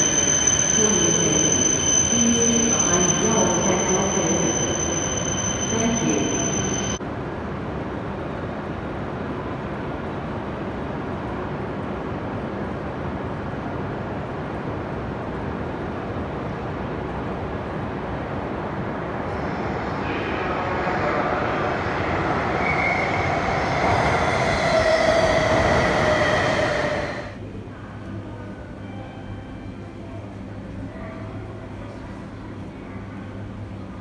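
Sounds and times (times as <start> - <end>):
train running with high whine: 0.0 - 34.0.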